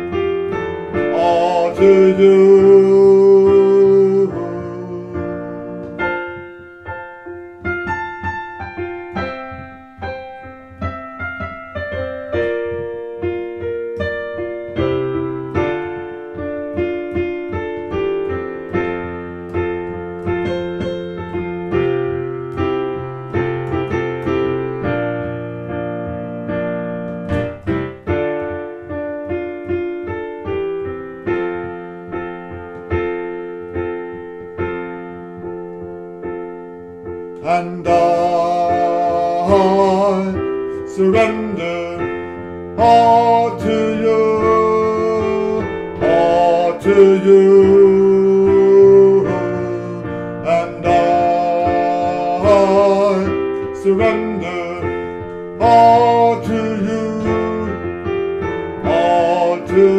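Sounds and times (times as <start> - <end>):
slow solo piano chords: 0.0 - 59.9.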